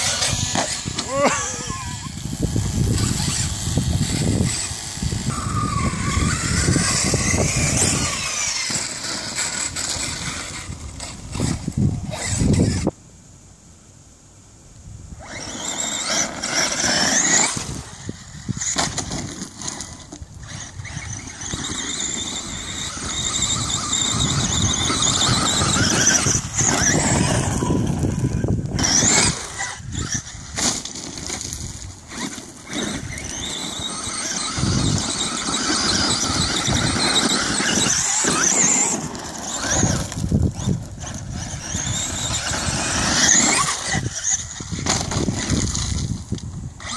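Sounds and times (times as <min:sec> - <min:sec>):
toy truck motor whining: 0:00.0 - 0:13.0, 0:15.2 - 0:46.9
tyres on gravel: 0:00.0 - 0:13.0, 0:15.2 - 0:46.9.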